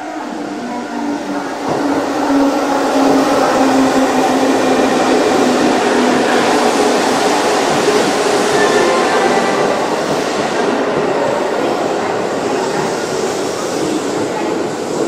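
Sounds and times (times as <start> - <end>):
electric train rushing: 0.0 - 15.0.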